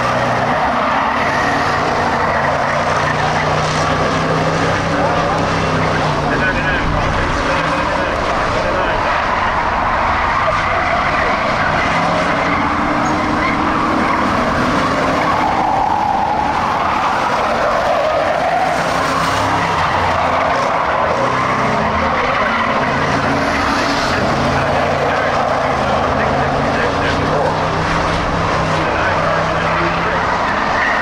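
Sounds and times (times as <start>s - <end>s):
race car engines revving: 0.0s - 31.0s.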